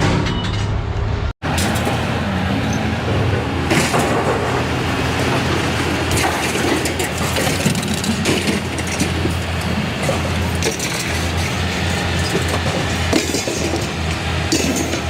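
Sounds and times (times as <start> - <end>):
engine running: 1.4 - 15.0
scrap metal clanking: 1.4 - 15.0.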